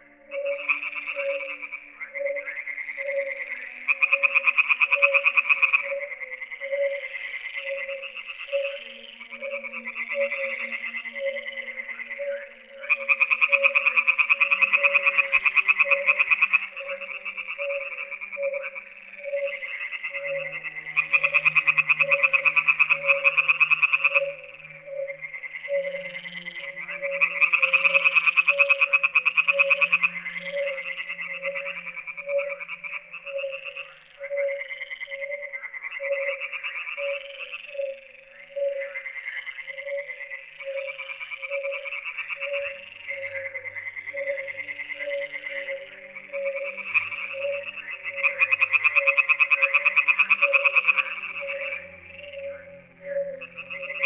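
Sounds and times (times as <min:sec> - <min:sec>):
frogs croaking in rapid pulses: 0:00.0 - 0:54.0
short lower frog calls: 0:00.0 - 0:54.0.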